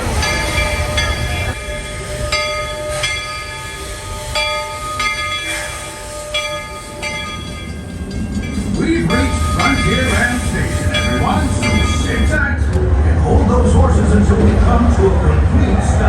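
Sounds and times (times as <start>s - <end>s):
steam locomotive bell ringing: 0.0s - 12.9s
train rumbling on track: 0.0s - 16.0s.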